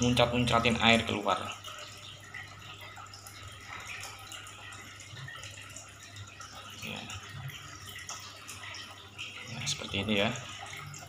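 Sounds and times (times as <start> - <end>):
water drip ticks: 0.0 - 11.0
water splashing and trickling: 0.0 - 11.0.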